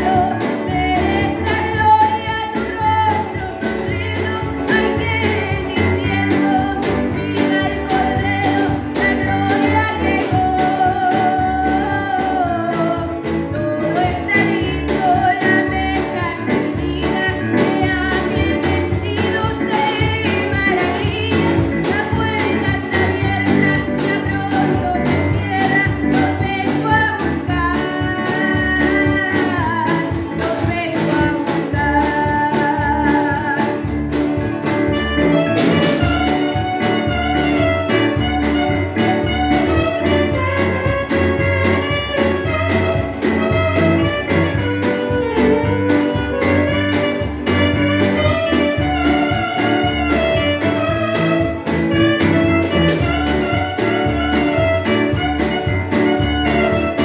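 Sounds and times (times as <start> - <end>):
strummed acoustic guitar: 0.0 - 57.0
woman singing: 0.0 - 57.0.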